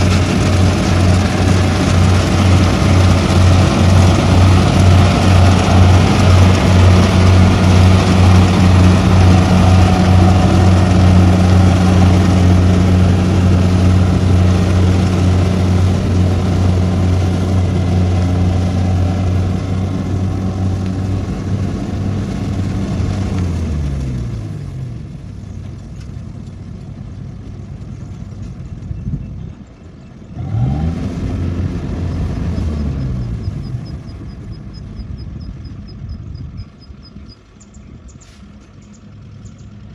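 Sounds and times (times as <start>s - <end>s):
combine harvester engine: 0.0s - 39.9s.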